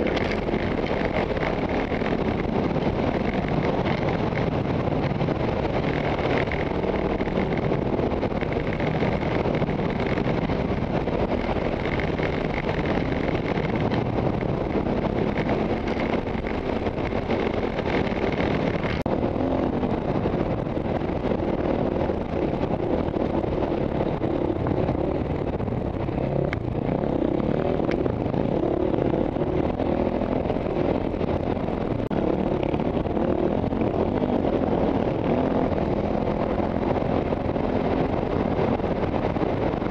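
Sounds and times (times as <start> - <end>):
trail bike engine running: 0.0 - 39.9.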